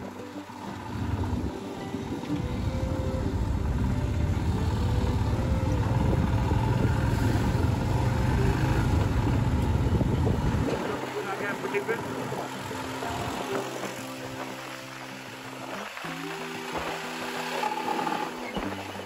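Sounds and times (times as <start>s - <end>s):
motorcycle engine running: 0.0s - 19.0s
wind rumbling on microphone: 0.7s - 19.0s.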